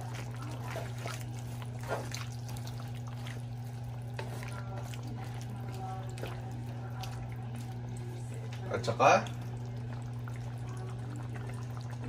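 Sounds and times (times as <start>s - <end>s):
sauce bubbling in a wok: 0.0s - 12.0s
steady low hum: 0.0s - 12.0s.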